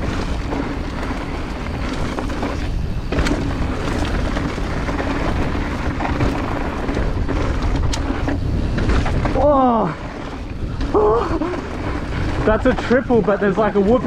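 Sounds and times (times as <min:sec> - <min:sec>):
bike rattling over bumps: 0:00.0 - 0:14.0
tyres over dirt: 0:00.0 - 0:14.0
wind on microphone: 0:00.0 - 0:14.0.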